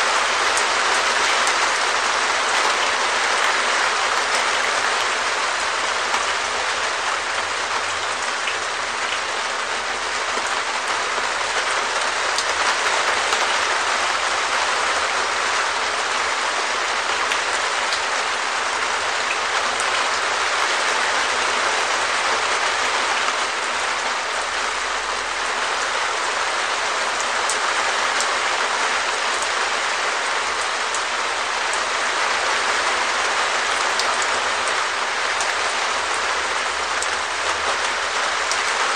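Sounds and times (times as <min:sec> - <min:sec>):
rain on plastic roof: 0:00.0 - 0:38.9.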